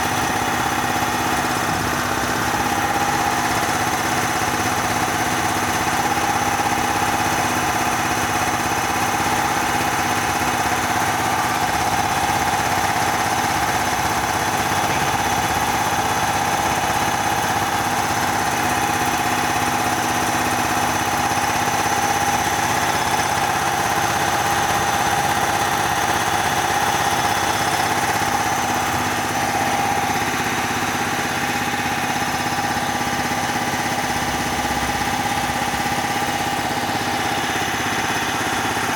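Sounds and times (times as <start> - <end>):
air compressor drone: 0.0 - 38.9
compressor whine: 0.0 - 38.9.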